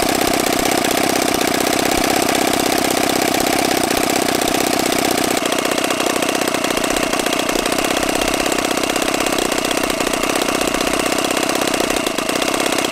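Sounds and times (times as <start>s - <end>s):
model engine idling: 0.0s - 12.9s.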